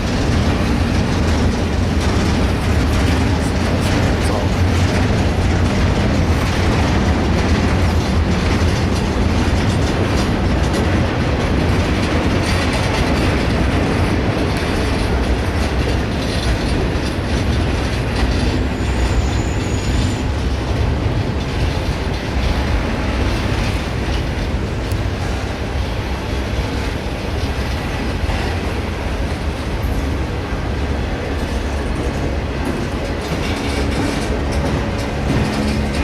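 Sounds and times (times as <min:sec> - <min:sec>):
train cars rumbling past: 0:00.0 - 0:36.0.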